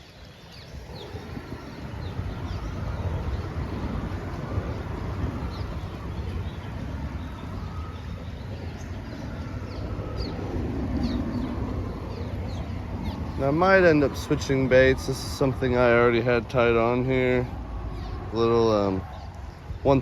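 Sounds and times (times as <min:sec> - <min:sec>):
traffic rumble on bridge: 0:00.0 - 0:20.0
river rushing: 0:00.7 - 0:19.7.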